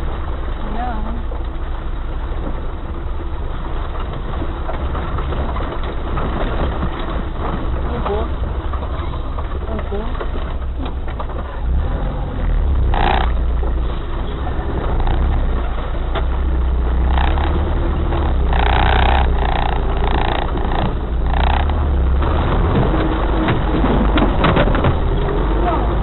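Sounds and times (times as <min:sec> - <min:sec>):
off-road vehicle engine rumble: 0:00.0 - 0:26.0.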